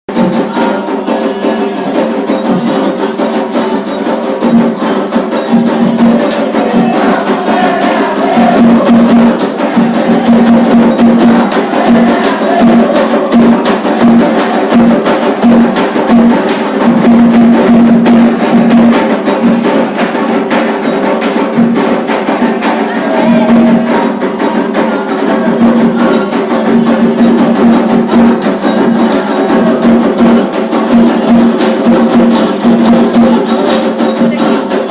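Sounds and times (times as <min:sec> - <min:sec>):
hand drums: 0:00.1 - 0:34.9
fast clicking beat: 0:00.2 - 0:34.9.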